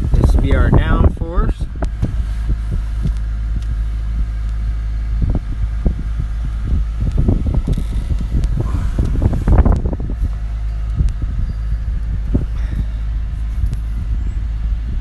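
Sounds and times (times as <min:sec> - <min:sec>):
low machine rumble: 0:00.0 - 0:15.0
low thumps: 0:00.0 - 0:15.0
wind buffeting microphone: 0:00.0 - 0:15.0.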